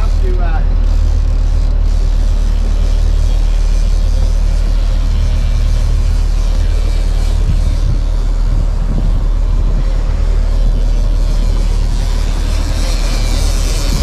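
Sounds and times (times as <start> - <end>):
boat engine droning: 0.0 - 14.0
wind hiss: 0.0 - 14.0.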